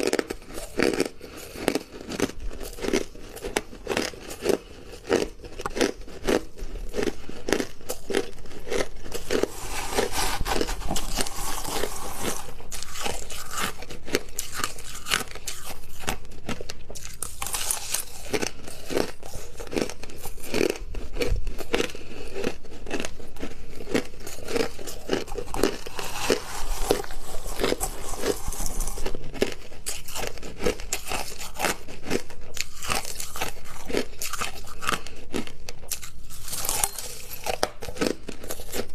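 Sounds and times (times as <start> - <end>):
chewing crushed ice: 0.0 - 38.9.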